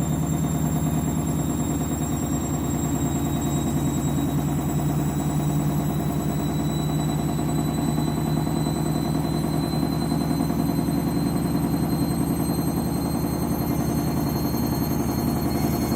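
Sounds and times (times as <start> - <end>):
high motor whine: 0.0 - 15.9
washing machine spinning: 0.0 - 15.9.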